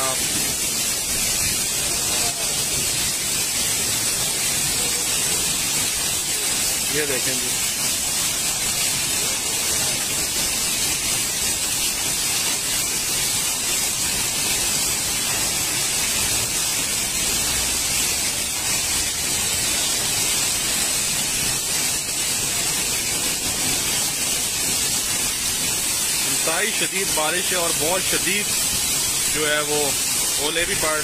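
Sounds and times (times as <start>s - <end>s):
torrential rain and hail: 0.0s - 31.0s.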